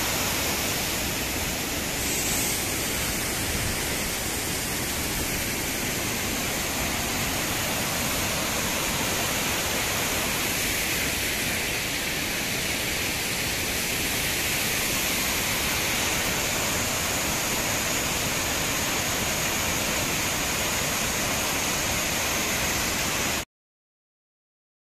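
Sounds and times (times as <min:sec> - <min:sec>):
waterfall rushing: 0:00.0 - 0:23.4.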